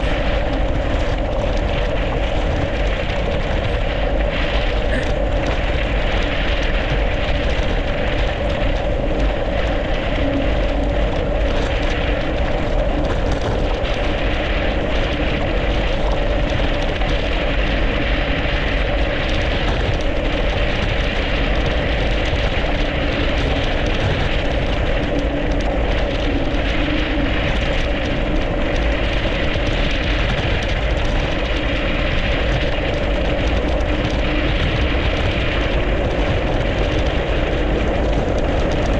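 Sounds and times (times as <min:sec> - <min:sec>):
bicycle tyres rolling on snow: 0:00.0 - 0:38.9
constant hum: 0:00.0 - 0:38.9
wind rumble on microphone: 0:00.0 - 0:38.9.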